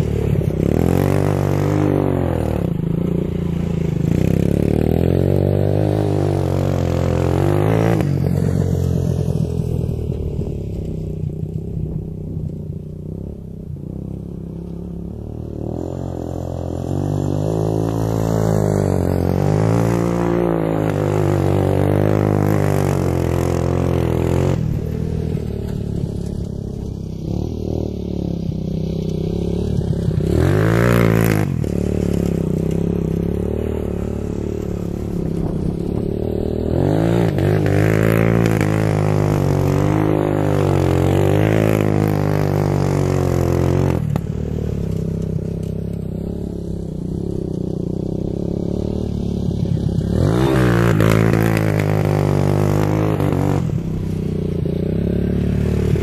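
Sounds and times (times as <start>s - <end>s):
quad bike engine running hard: 0.0s - 56.0s.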